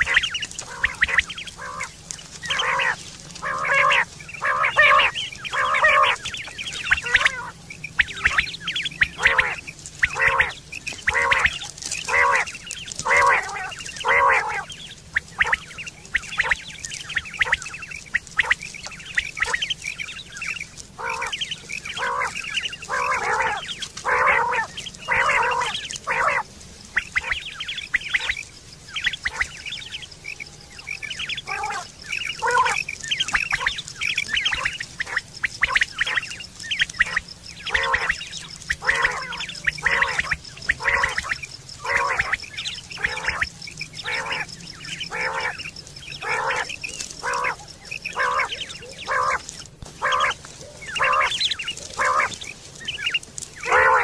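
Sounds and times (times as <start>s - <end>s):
quail calling rasping notes: 0.0s - 54.0s.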